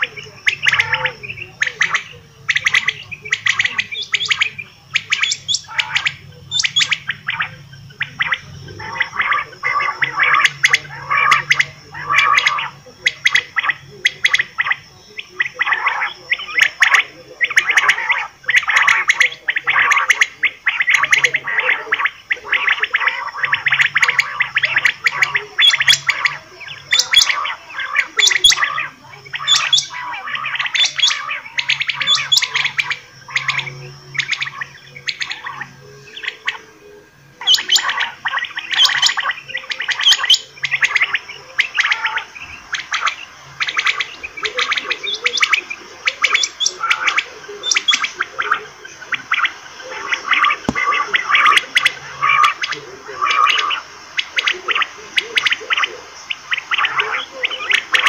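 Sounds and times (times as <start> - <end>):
quail calling: 0.0 - 58.0.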